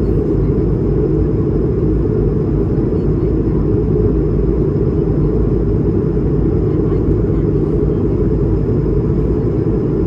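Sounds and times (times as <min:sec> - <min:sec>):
airflow over fuselage: 0:00.0 - 0:10.0
airliner cabin engine rumble: 0:00.0 - 0:10.0.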